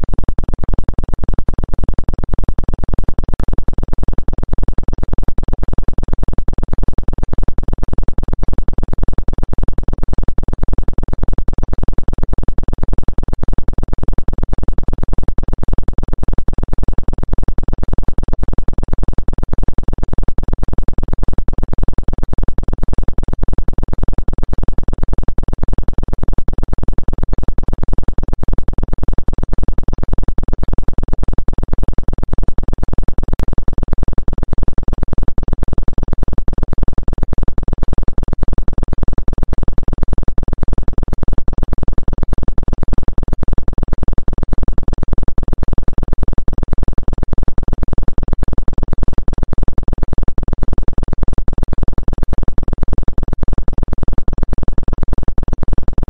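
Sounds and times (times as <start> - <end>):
pulsing low electronic hum: 0.0 - 56.0.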